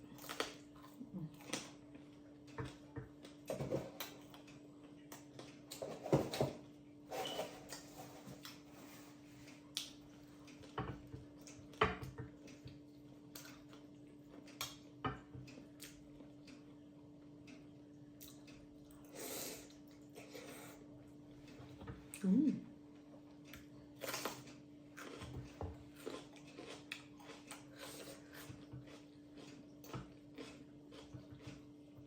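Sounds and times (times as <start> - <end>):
chewing: 0.0 - 6.2, 7.7 - 22.3, 23.0 - 32.0.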